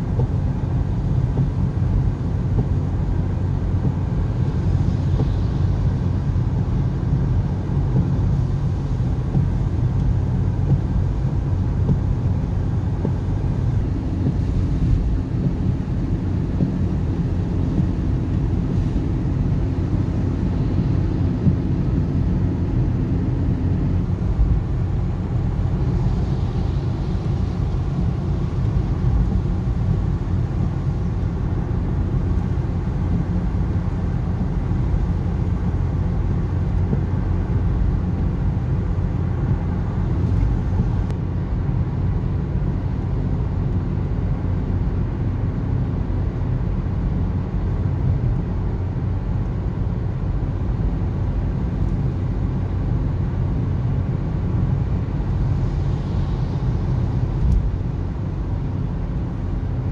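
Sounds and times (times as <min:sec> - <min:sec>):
car road noise on wet road: 0:00.0 - 0:59.9.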